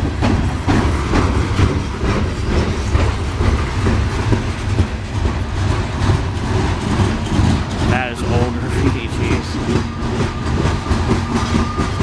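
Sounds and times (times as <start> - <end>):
freight train rumbling past: 0.0 - 12.0
wheels clacking over rail joints: 0.0 - 12.0.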